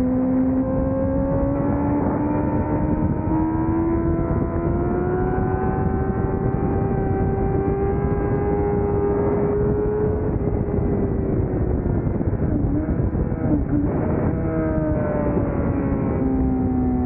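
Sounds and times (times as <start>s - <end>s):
racing motorcycle engine revving: 0.0s - 17.0s
wind rush: 0.0s - 17.0s.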